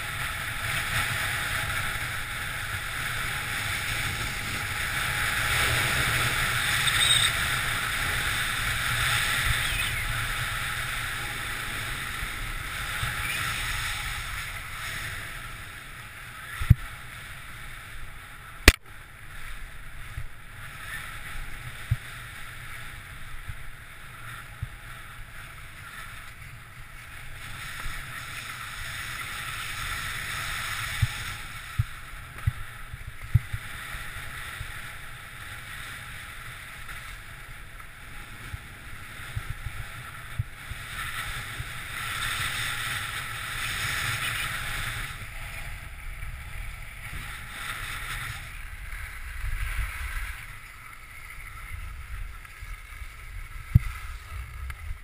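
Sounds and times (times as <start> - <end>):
skis scraping over snow: 0.0 - 18.5, 19.3 - 55.0.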